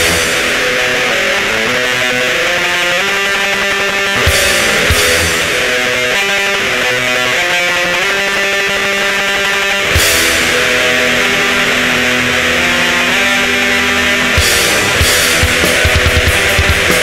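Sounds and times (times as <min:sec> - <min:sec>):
electric guitar notes: 0:00.0 - 0:17.0
metal band held chord: 0:00.0 - 0:17.0.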